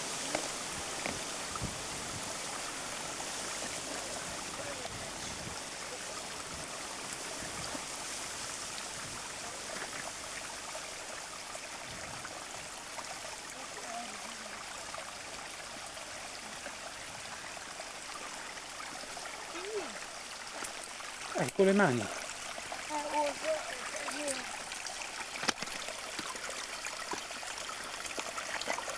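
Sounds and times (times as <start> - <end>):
stream running over stones: 0.0 - 28.9.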